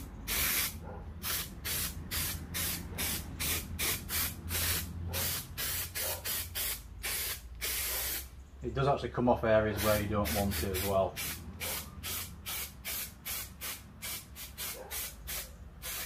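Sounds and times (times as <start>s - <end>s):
spray can hissing: 0.0s - 8.3s, 9.7s - 16.0s.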